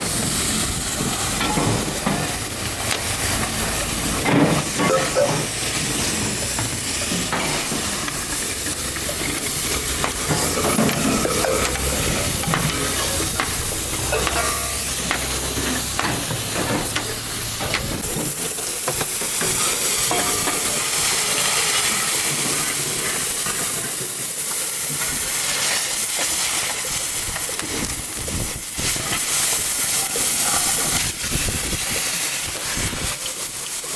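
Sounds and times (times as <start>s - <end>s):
cutting torch hissing: 0.0s - 33.9s.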